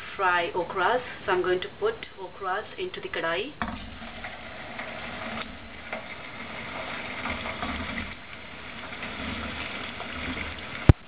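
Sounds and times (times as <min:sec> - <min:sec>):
okra deep-frying in oil: 0:00.0 - 0:11.0.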